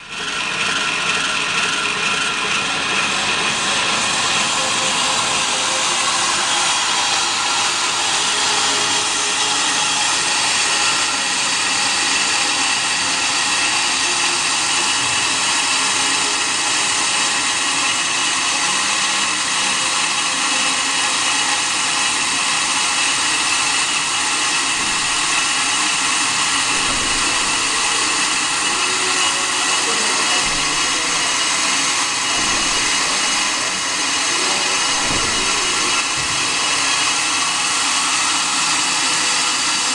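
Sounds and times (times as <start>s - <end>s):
brake lathe machining noise: 0.0s - 39.9s.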